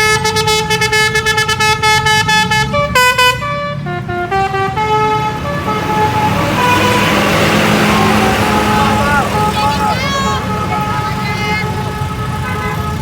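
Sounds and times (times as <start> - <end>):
bus engines and road noise: 0.0 - 13.0
bus musical horn melody: 0.0 - 13.0.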